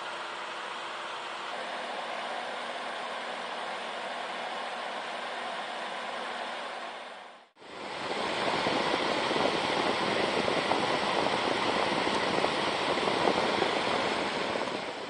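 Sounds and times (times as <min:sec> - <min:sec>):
fan blowing air: 0:00.0 - 0:15.0.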